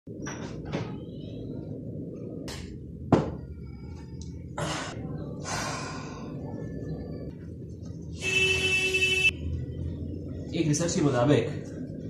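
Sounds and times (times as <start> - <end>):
low hum: 0.1 - 12.0.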